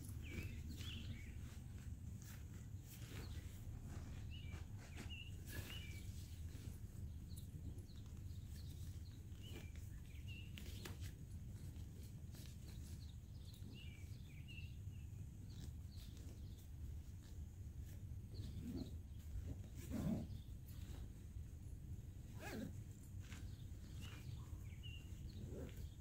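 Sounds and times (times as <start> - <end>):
small birds chirping: 0.0 - 26.0
tent and bag rustling: 0.0 - 26.0.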